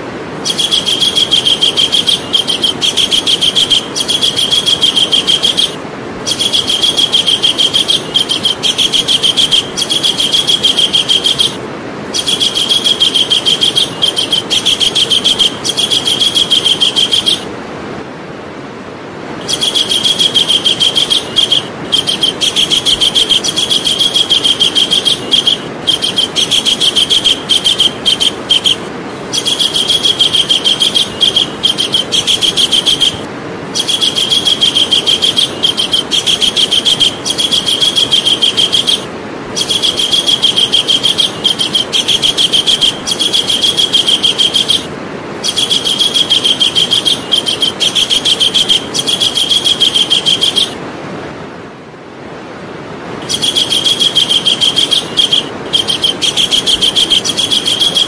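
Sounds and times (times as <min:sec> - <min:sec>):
kingfisher calling: 0:00.4 - 0:17.5, 0:19.4 - 0:50.8, 0:53.2 - 0:58.0.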